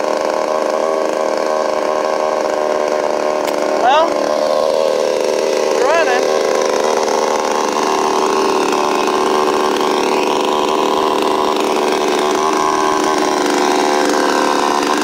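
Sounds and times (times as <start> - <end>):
chainsaw idling: 0.0 - 15.0.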